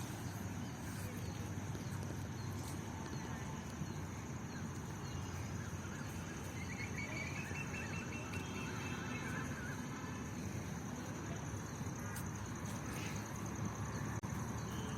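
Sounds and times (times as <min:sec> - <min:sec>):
garden ambience: 0:00.0 - 0:14.9.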